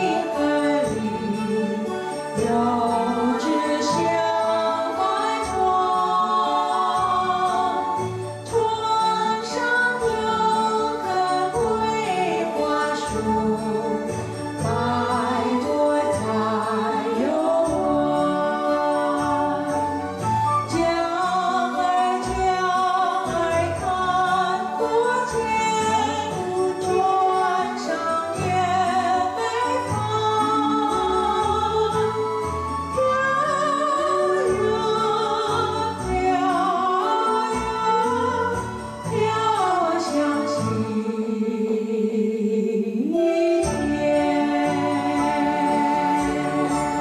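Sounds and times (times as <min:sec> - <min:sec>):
instrumental backing: 0:00.0 - 0:41.5, 0:43.1 - 0:47.0
person singing a waltz song: 0:00.0 - 0:47.0.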